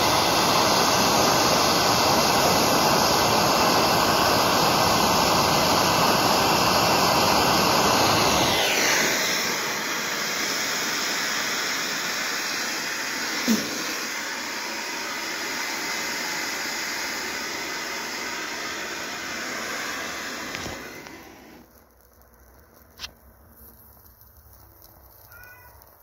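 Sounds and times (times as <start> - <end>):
torch flame roaring: 0.0 - 23.4.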